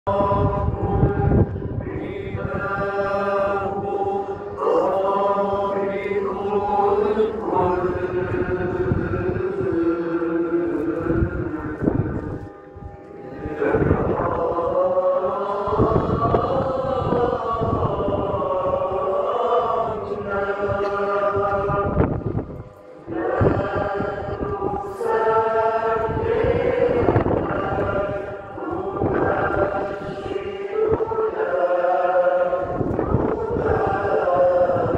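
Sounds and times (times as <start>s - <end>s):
voices singing religious chant: 0.0s - 34.9s.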